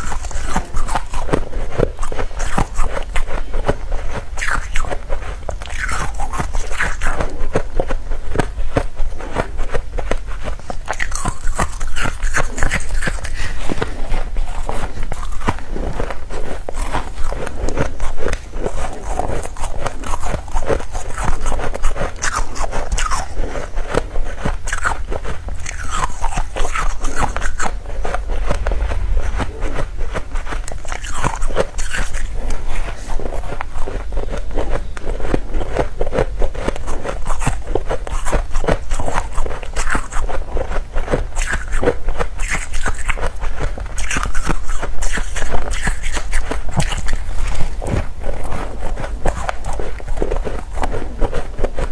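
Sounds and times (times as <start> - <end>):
chewing crunchy frost: 0.0 - 51.9.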